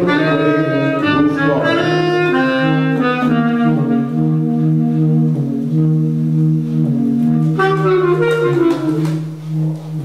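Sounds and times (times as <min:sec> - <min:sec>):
saxophones playing jazz: 0:00.0 - 0:10.0.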